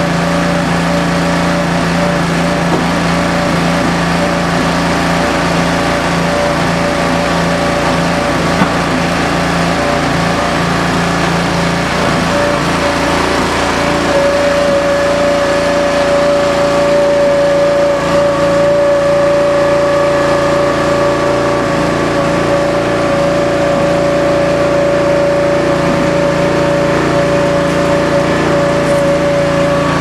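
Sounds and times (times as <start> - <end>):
gas engine running: 0.0 - 30.0
steady high whine: 0.0 - 30.0.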